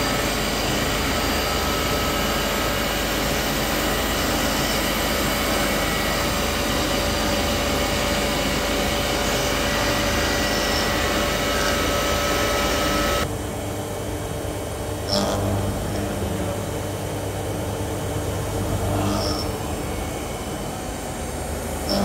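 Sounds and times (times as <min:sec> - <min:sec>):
milling machine running: 0:00.0 - 0:22.0.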